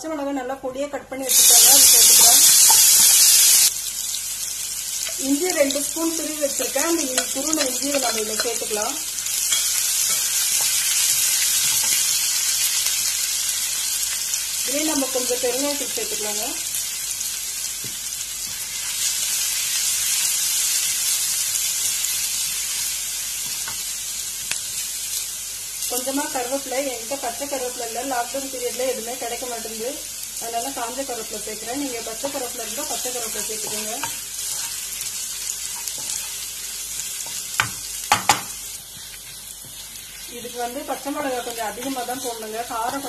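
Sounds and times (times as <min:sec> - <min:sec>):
chillies sizzling in hot oil: 0:01.2 - 0:43.0.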